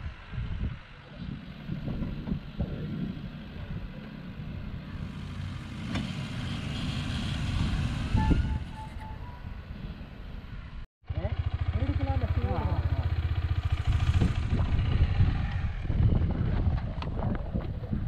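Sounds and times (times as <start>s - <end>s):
off-road vehicle rumbling: 0.0s - 18.0s.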